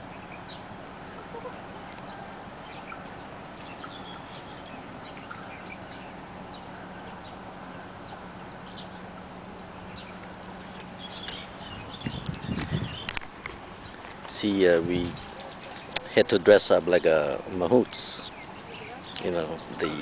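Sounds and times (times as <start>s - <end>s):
low steady hum: 0.0s - 20.0s
small birds chirping: 0.0s - 20.0s
steady background hiss: 0.0s - 20.0s.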